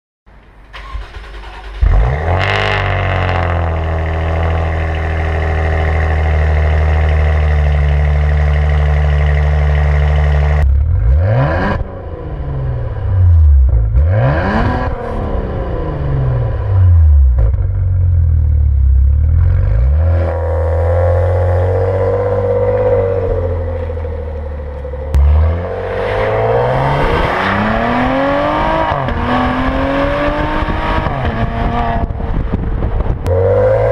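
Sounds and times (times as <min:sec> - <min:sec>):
car engine starting and idling: 0:00.4 - 0:33.9
car engine revving: 0:00.8 - 0:33.9.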